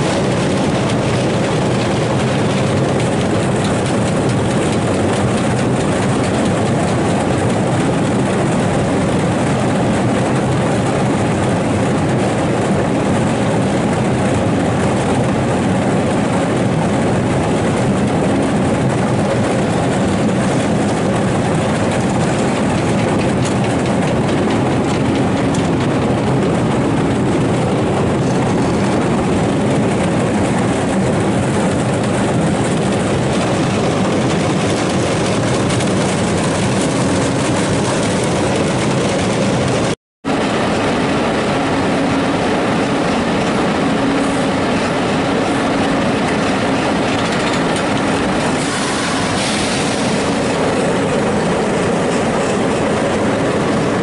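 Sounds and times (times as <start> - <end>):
conveyor machinery din: 0.0 - 54.0.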